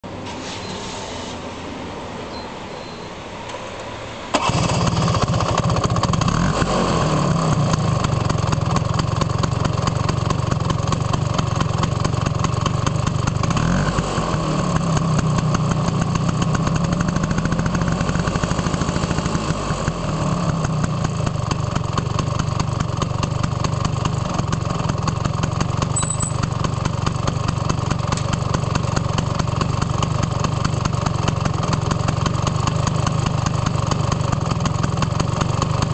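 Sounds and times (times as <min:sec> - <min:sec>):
scooter engine starting and revving: 0:04.3 - 0:35.9.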